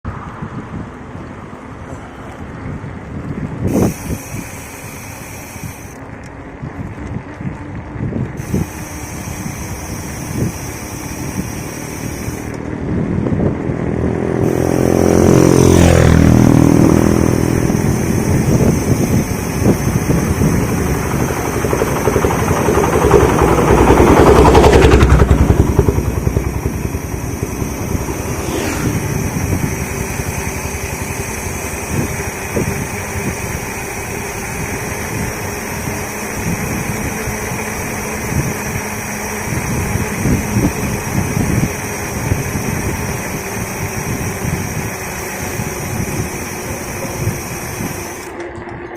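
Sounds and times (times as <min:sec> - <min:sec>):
motorcycles passing: 0:00.0 - 0:42.9
bicycle tyres and frame rattling: 0:00.2 - 0:48.9.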